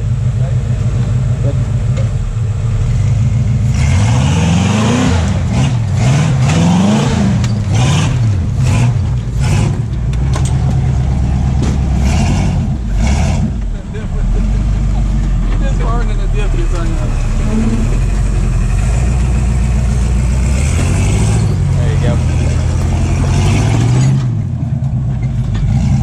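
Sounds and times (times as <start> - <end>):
engine idling and revving: 0.0 - 26.0.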